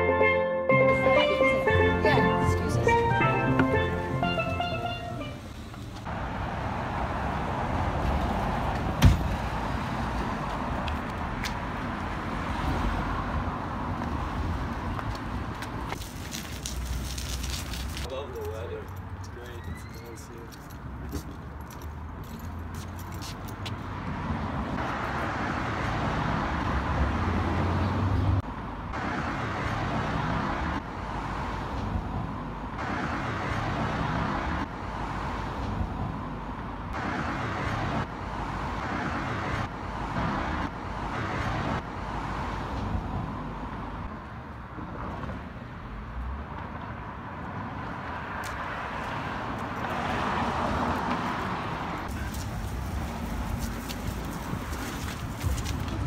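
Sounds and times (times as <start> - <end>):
cars passing on road: 0.0 - 56.0.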